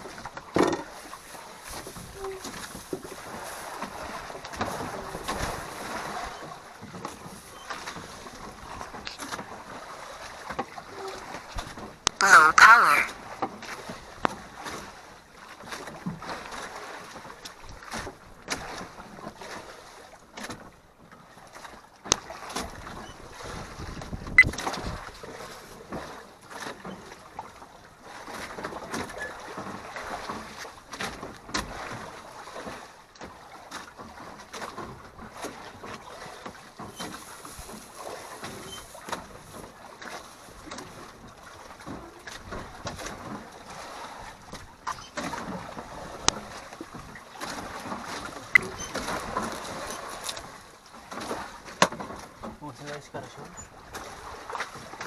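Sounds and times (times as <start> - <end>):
water: 0.0 - 55.0
wind: 0.0 - 55.0.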